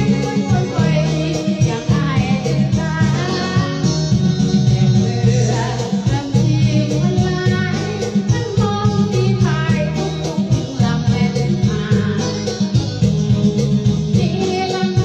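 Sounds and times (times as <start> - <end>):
singing: 0.0 - 12.9, 14.1 - 15.0
strong bass beat: 0.0 - 15.0.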